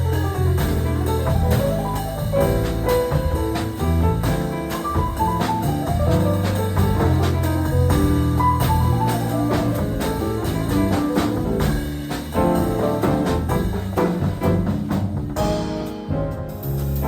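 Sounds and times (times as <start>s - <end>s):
drum and cymbal strokes: 0.0s - 17.0s
jazz trio playing: 0.0s - 17.0s.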